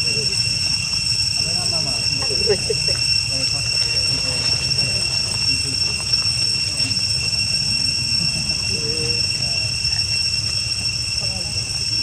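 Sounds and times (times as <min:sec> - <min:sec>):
high-pitched drone: 0:00.0 - 0:12.0.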